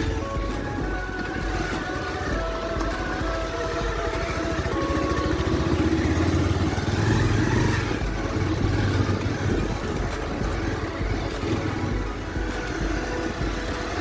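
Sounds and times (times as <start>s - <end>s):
motorcycle engine rumble: 0.0s - 14.0s
wind and road noise: 0.0s - 14.0s.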